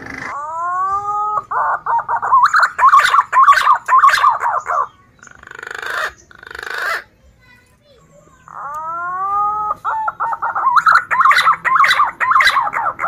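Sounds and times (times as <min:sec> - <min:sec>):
pigeon whistling song: 0:00.0 - 0:07.0, 0:08.5 - 0:13.0.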